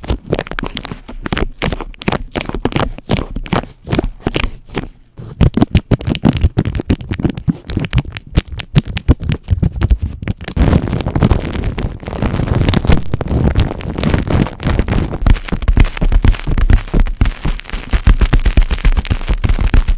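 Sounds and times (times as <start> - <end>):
scratchy rubbing over tiles: 0.0 - 19.9.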